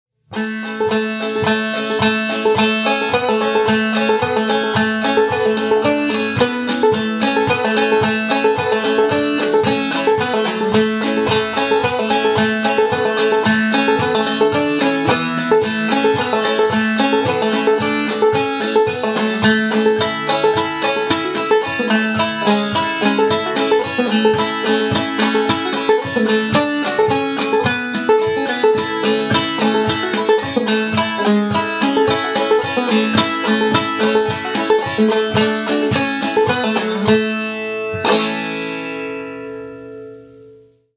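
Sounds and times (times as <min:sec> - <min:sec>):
banjo playing old-time tune: 0:00.2 - 0:40.1.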